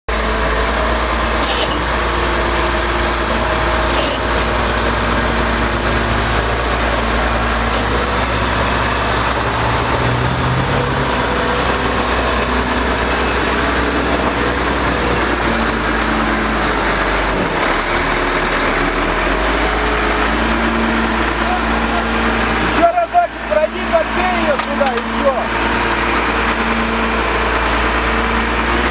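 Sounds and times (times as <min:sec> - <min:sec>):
heavy road machinery running: 0:00.1 - 0:28.9.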